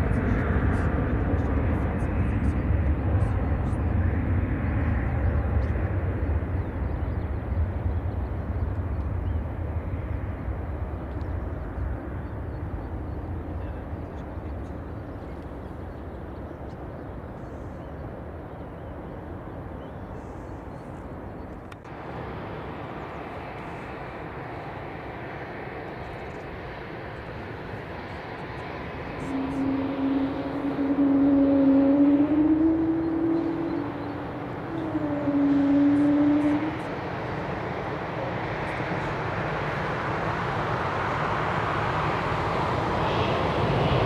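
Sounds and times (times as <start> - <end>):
jet airliner engine rumble: 0.0 - 44.0.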